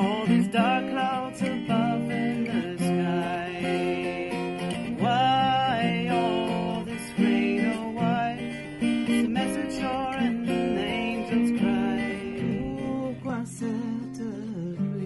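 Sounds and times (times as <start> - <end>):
acoustic guitar strumming: 0.0 - 15.0
woman singing: 0.0 - 15.0.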